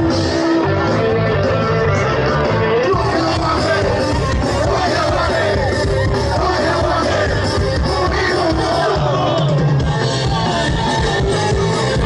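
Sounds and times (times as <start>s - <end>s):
crowd voices: 0.0s - 12.0s
live rock band: 0.0s - 12.0s.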